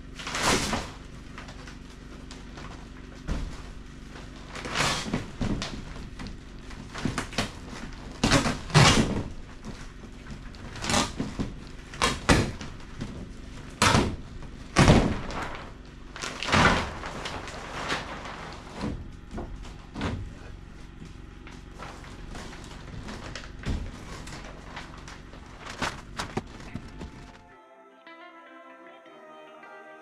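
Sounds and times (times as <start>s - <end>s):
plastic roof panels rattling: 0.1s - 27.4s.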